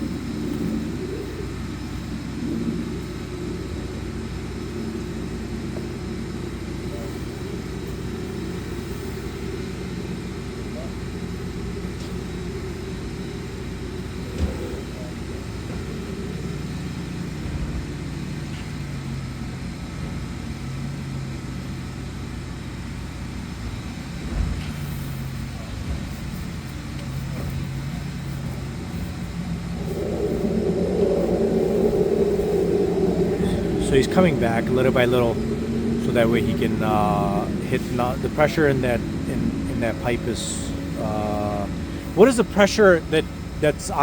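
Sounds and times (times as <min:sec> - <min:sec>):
engine and pump running: 0:00.0 - 0:44.0.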